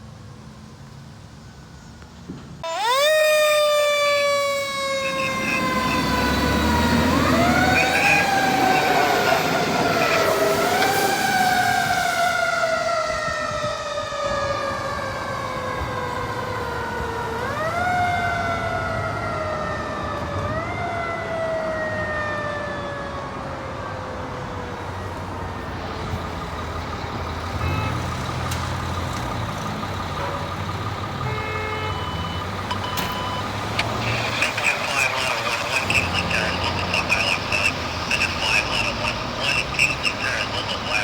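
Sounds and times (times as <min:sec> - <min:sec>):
truck engine rumble: 0:00.6 - 0:23.4, 0:24.3 - 0:41.0
mechanical siren wailing: 0:02.6 - 0:25.8, 0:31.2 - 0:41.0.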